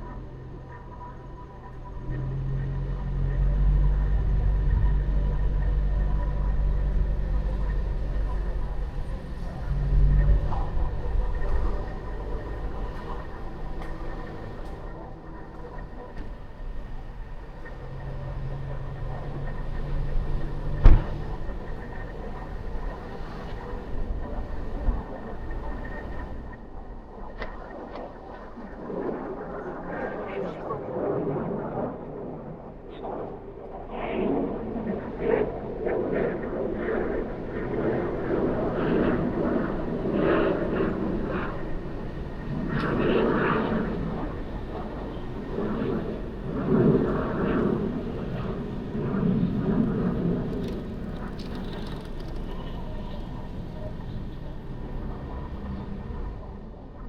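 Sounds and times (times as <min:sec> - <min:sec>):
car road and engine noise: 0:00.0 - 0:26.9, 0:36.3 - 0:57.0
low hum: 0:00.0 - 0:57.0.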